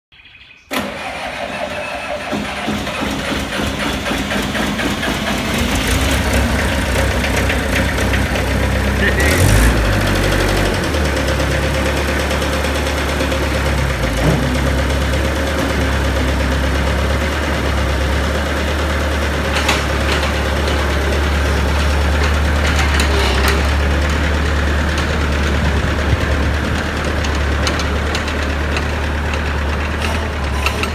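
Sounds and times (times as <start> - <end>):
diesel engine idling: 0.2 - 30.9.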